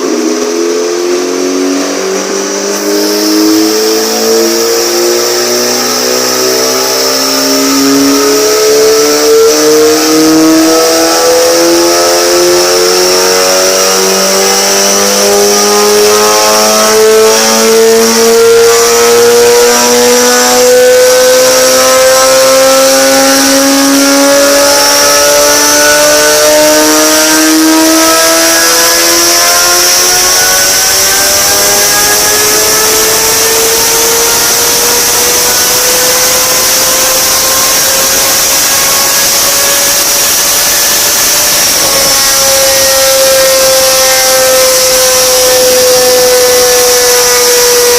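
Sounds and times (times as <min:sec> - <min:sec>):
motorcycle engine revving up: 0:00.0 - 0:47.9.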